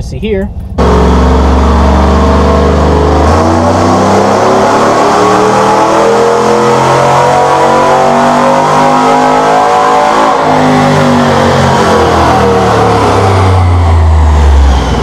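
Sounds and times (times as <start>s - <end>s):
car engine under load: 0.0s - 15.0s.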